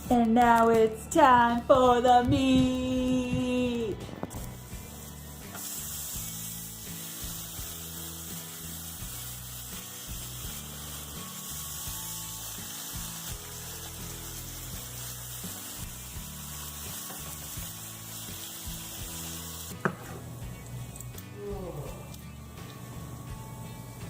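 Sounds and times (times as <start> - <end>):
low background music: 0.0 - 24.0
bacon sizzling: 4.3 - 24.0.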